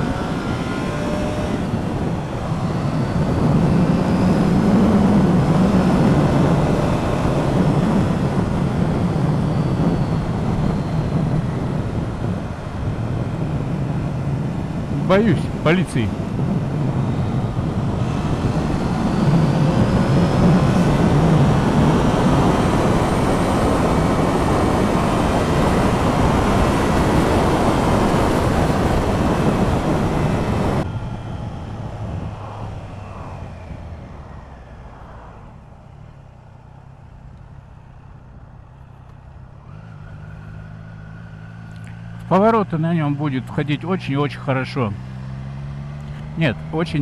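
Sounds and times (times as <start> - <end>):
wind rush on microphone: 0.0 - 38.7
motorcycle engine: 0.0 - 43.7, 44.7 - 47.0.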